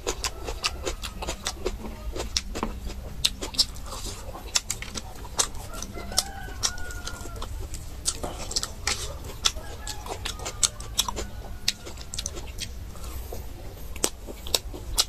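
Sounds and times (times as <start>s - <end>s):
gnawing and chewing bones: 0.0s - 15.0s.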